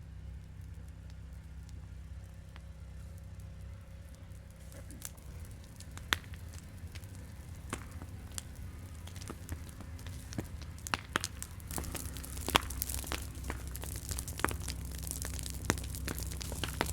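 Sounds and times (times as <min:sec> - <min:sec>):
low steady rumble: 0:00.0 - 0:16.9
wood fire crackling: 0:00.0 - 0:16.9.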